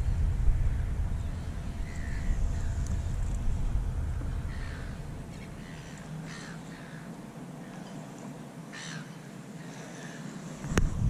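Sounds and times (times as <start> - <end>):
bird calling: 0.7 - 3.4, 4.0 - 10.5.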